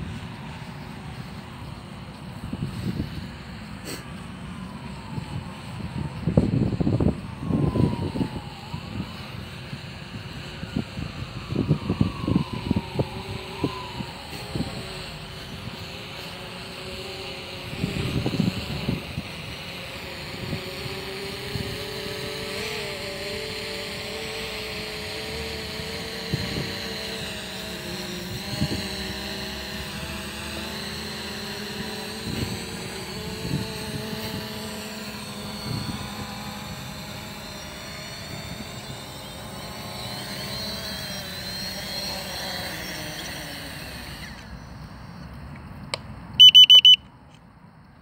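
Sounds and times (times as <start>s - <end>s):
drone propellers humming: 0.0s - 45.4s, 46.2s - 47.0s.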